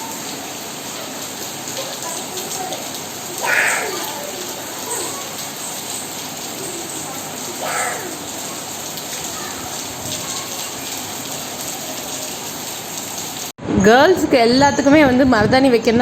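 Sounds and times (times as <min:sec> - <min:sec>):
steady rain falling: 0:00.0 - 0:13.6.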